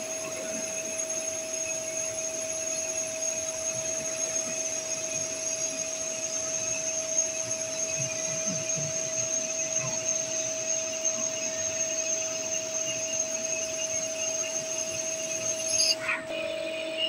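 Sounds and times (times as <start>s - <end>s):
machine hiss: 0.0s - 16.0s
lathe machine whine: 0.0s - 17.0s.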